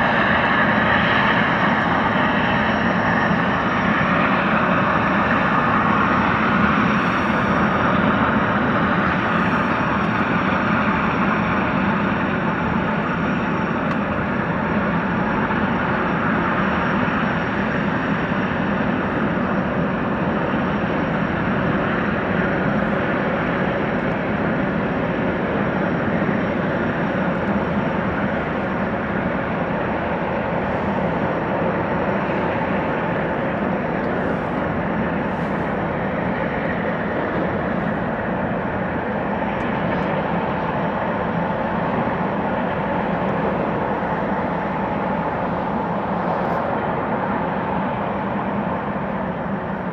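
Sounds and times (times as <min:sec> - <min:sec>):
jetfoil engine rushing with whine: 0:00.0 - 0:49.9.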